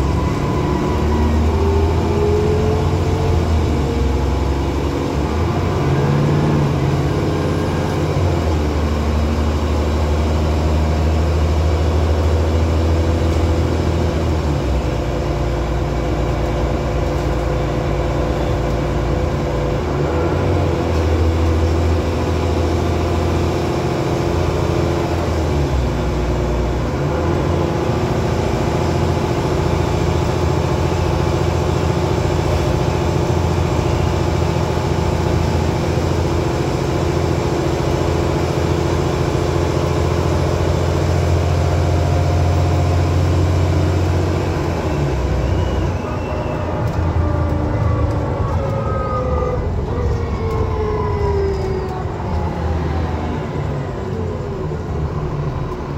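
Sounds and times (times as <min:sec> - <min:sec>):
bus engine droning and whining: 0:00.0 - 0:55.9.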